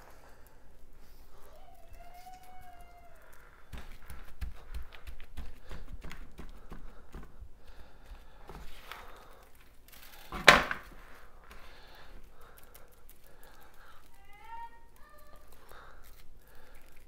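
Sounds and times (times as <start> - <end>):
gloved hands handling meat: 0.0 - 17.0.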